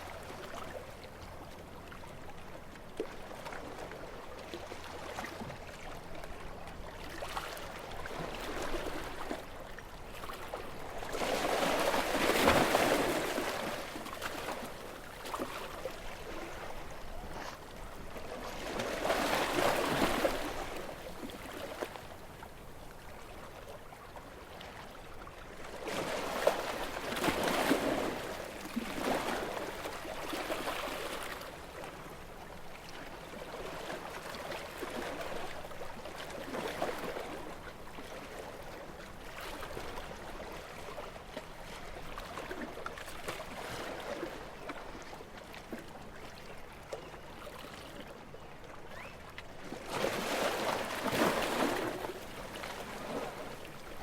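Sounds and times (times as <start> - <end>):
small waves lapping on shore: 0.0 - 54.0.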